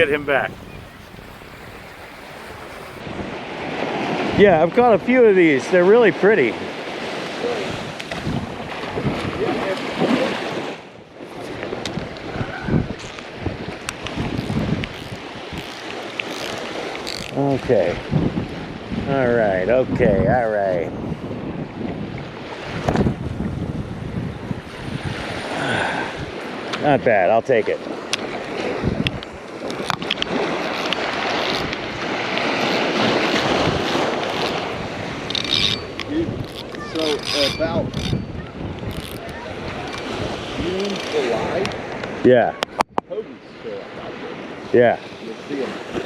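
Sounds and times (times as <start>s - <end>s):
wind buffeting microphone: 0.0s - 5.4s, 6.0s - 43.3s
surf washing: 0.0s - 46.0s.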